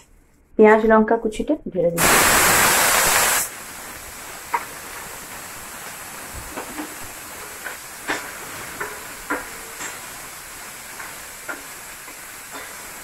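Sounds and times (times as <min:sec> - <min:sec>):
onion sizzling in hot oil: 0:02.0 - 0:13.0.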